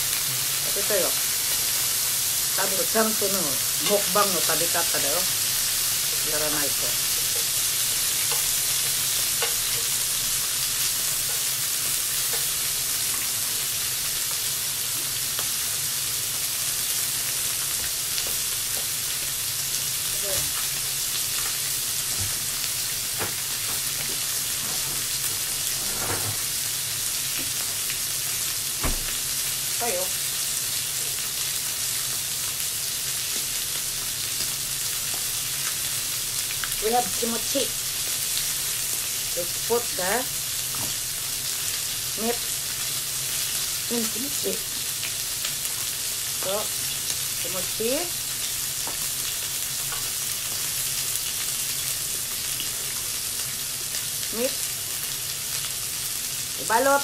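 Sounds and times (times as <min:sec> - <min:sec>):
food sizzling on a grill: 0:00.0 - 0:57.0.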